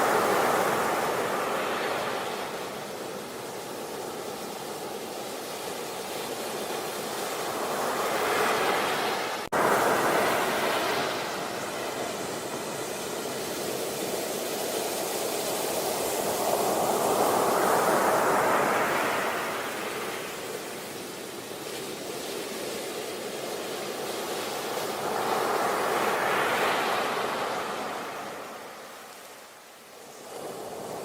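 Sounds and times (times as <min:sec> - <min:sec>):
sea waves washing onto beach: 0:00.0 - 0:31.0.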